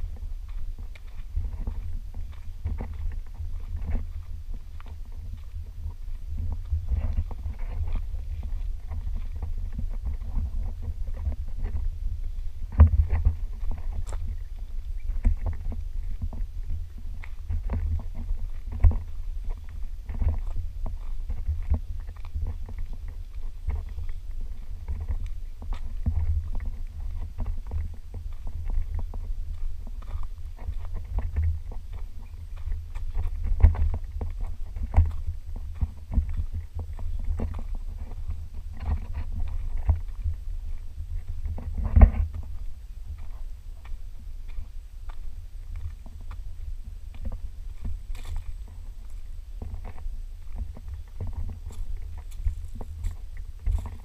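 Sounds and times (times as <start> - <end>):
footsteps on gravel trail: 0.0 - 54.0
low microphone handling rumble: 0.0 - 54.0.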